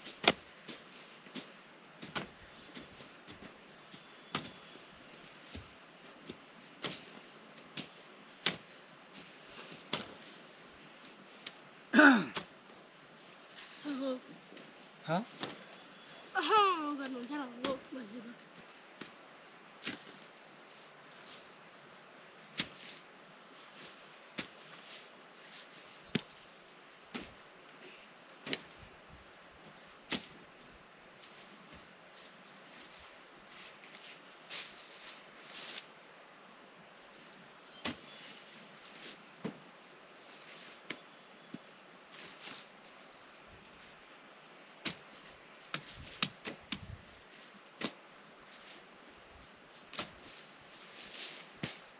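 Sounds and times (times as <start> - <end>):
faint pulsing chirr: 0.0 - 51.9.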